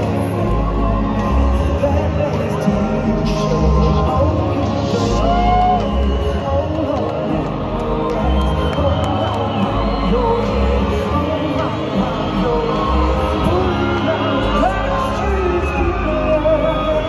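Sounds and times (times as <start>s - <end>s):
crowd shouting: 0.0s - 17.0s
live synth-pop band: 0.0s - 17.0s
person singing: 0.0s - 17.0s.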